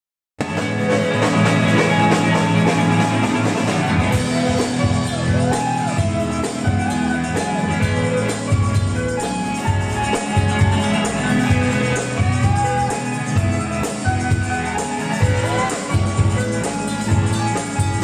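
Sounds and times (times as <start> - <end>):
electric guitar: 0.4 - 18.0
rock band playing live: 0.4 - 18.0.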